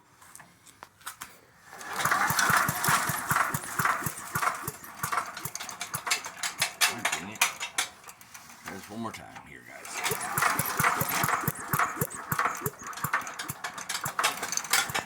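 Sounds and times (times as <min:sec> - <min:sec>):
loose blades clanking: 0:01.6 - 0:15.0
small engine cranked by pull cord: 0:01.6 - 0:15.0.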